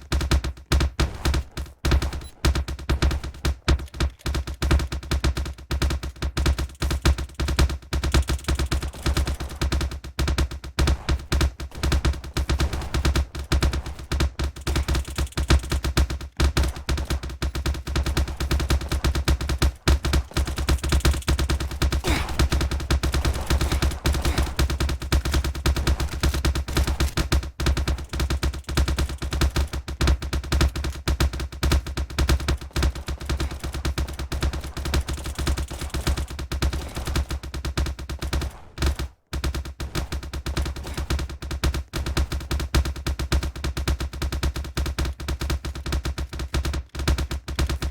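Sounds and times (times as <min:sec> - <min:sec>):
rapid clapping-like cracks: 0:00.0 - 0:47.9.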